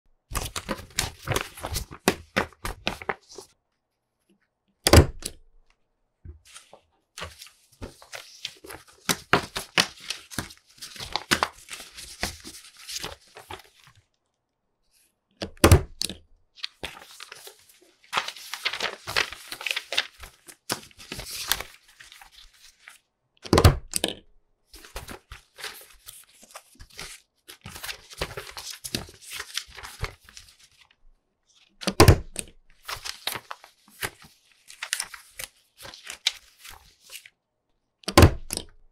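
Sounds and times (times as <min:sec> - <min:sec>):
paper sheets shuffled and tapped: 0:00.3 - 0:03.6, 0:04.3 - 0:14.1, 0:14.9 - 0:37.3.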